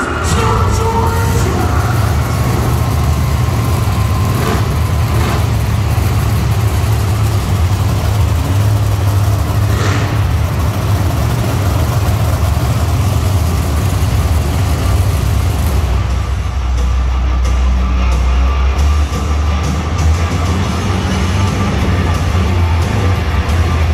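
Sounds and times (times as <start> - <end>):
truck engines rumbling: 0.0 - 23.9.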